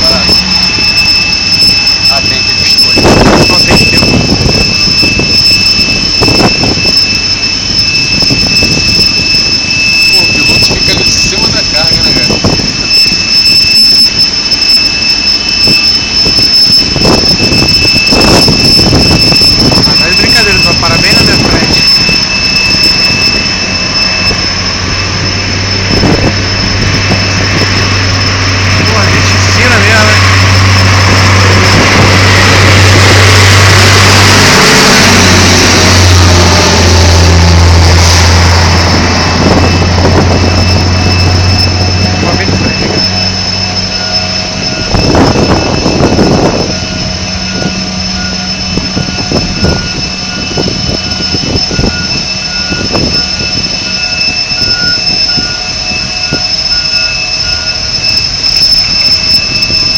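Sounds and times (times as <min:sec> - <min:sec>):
jet turbine whine and roar: 0:00.0 - 0:59.9.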